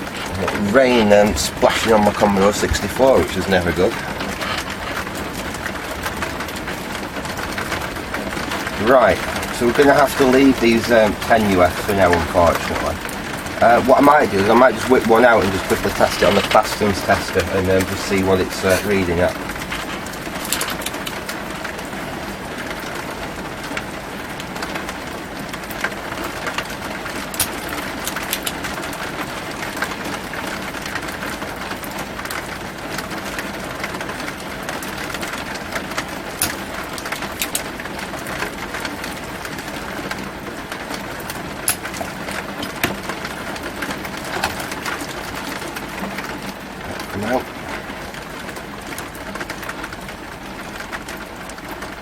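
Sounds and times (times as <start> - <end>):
heavy rain hissing: 0.0 - 52.0.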